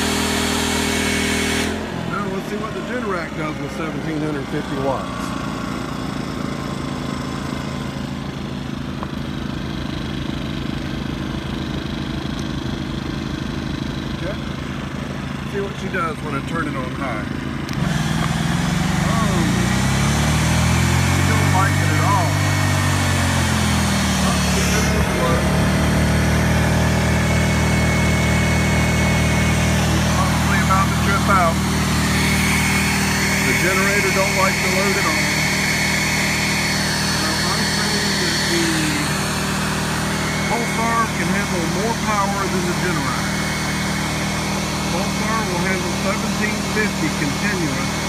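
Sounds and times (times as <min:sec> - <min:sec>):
generator engine running steadily: 0:00.0 - 0:48.0.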